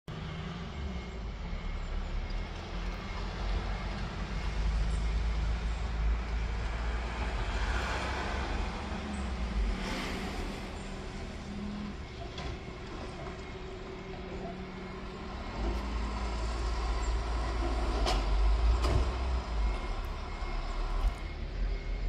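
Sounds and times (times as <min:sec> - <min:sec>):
road noise: 0:00.0 - 0:22.0
vehicle engine rumbling: 0:00.0 - 0:22.0.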